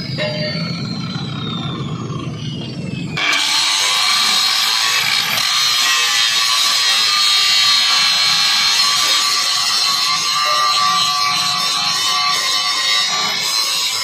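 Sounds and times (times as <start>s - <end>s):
angle grinder grinding steel: 0.0s - 14.0s.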